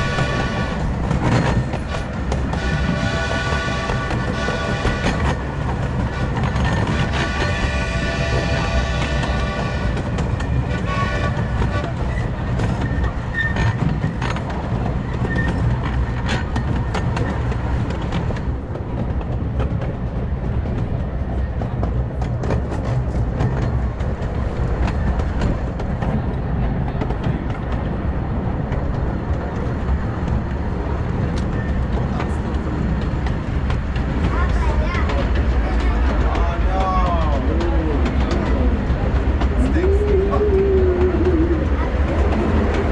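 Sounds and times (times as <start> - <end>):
steam train rumble: 0.0 - 42.9
wheels clicking on track: 0.0 - 42.9.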